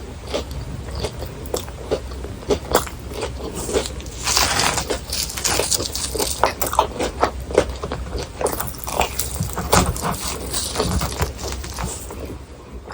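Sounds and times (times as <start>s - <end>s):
chewing crispy food: 0.2s - 12.9s.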